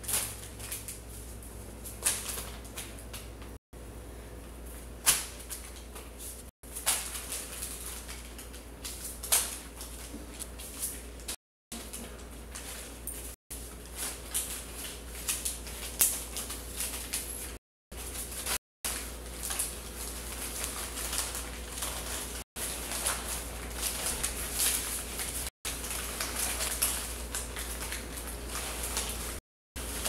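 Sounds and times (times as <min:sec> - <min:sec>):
paper banknotes crumpling: 0:05.1 - 0:30.0.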